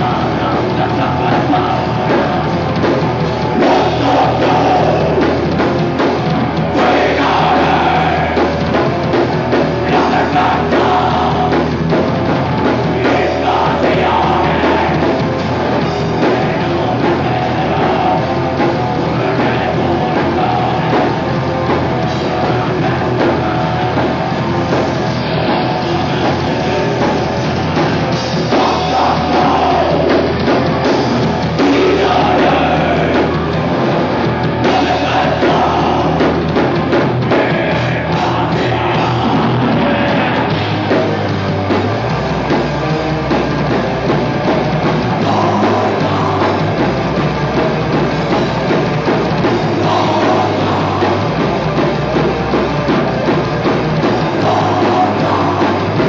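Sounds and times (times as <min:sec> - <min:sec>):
metal band playing live: 0:00.0 - 0:56.0.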